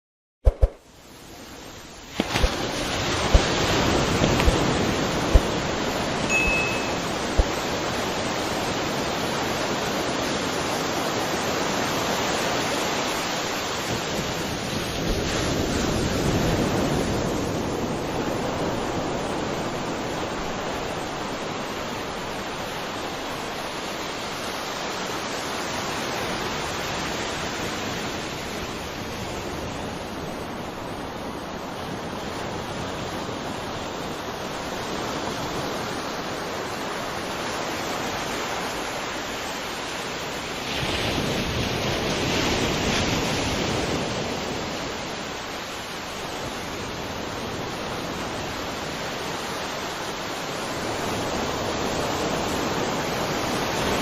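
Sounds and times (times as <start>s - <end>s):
sea waves washing onto shore: 0.8s - 54.0s.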